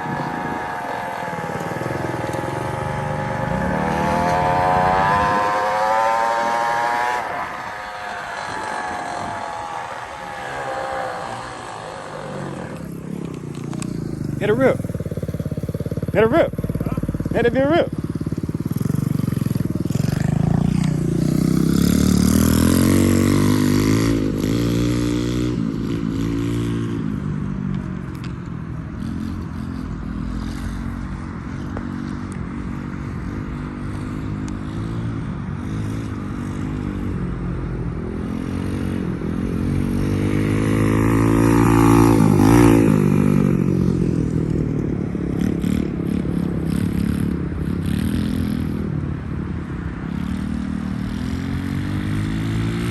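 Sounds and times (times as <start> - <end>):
motorbike engine accelerating: 0.0 - 52.9.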